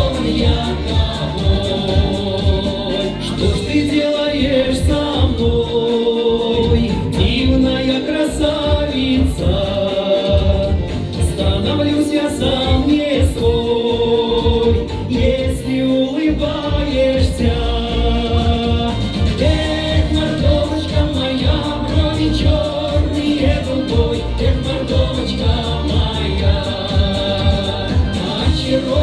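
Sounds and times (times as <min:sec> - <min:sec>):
backing music with a steady beat: 0:00.0 - 0:29.0
man singing into a microphone: 0:00.0 - 0:29.0.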